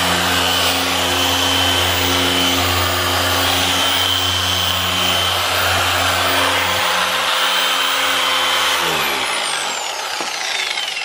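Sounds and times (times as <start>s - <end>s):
polisher motor humming and whining: 0.0s - 11.0s.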